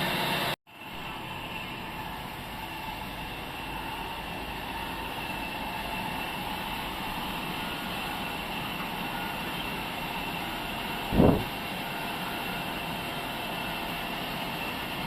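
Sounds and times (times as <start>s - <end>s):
sawmill machinery whine: 0.0s - 15.0s.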